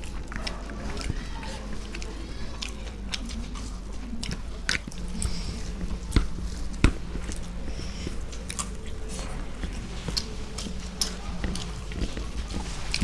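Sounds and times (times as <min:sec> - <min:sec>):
chewing and mouth clicks: 0:00.0 - 0:13.0
steady low hum: 0:00.0 - 0:13.0.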